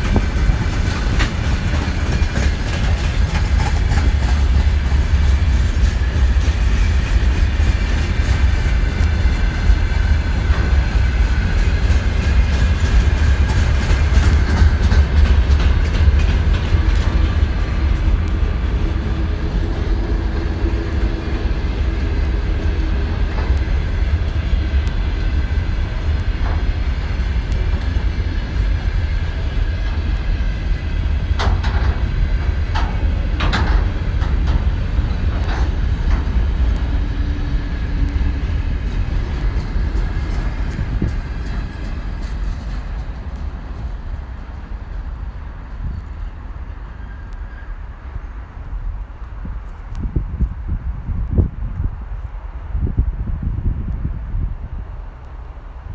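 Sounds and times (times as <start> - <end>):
steel wheels rumbling on rails: 0.0 - 55.9.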